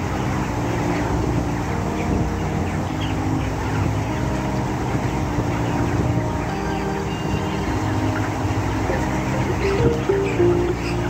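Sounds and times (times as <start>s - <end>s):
chickens peeping and chirping: 0.0s - 11.0s
low machine hum: 0.0s - 11.0s.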